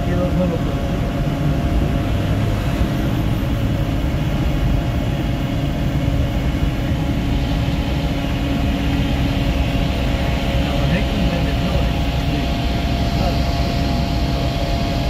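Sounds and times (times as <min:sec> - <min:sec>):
vehicle engine and tyres hum: 0:00.0 - 0:15.0.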